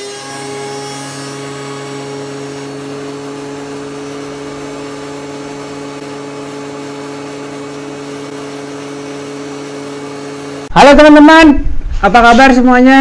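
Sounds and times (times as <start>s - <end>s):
thickness planer humming: 0.0s - 10.7s.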